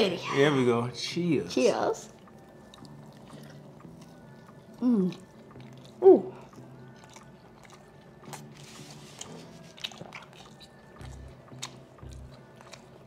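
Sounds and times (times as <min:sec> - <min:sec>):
faint background music: 0:00.0 - 0:13.0
people chewing: 0:01.7 - 0:13.0.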